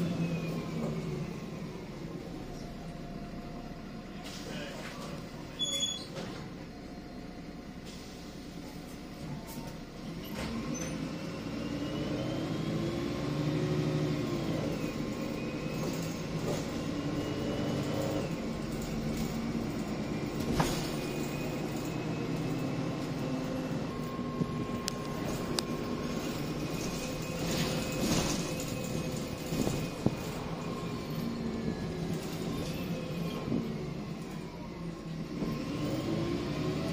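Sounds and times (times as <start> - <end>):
bus engine accelerating: 0.0 - 36.9.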